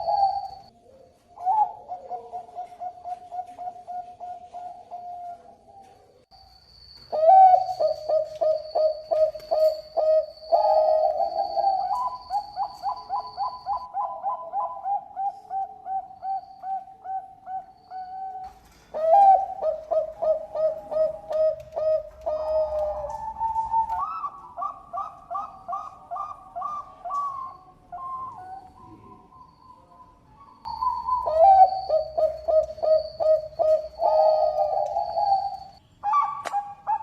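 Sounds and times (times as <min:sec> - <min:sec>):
dove cooing: 0:00.0 - 0:06.2, 0:07.1 - 0:37.0.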